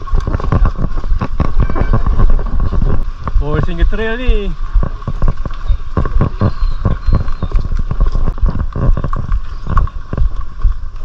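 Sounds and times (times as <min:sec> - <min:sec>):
mountain bike rattling over rough ground: 0:00.0 - 0:11.0.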